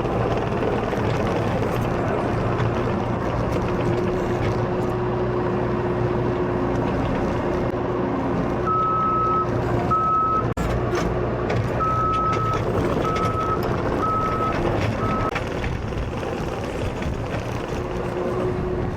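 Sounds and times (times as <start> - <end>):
skid steer engine running: 0.0 - 18.9.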